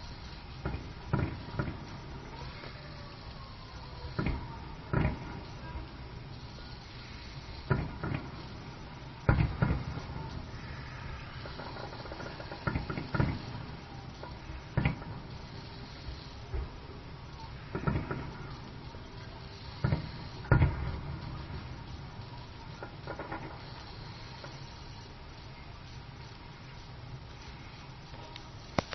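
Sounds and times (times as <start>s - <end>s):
fireworks booming: 0.0s - 28.9s.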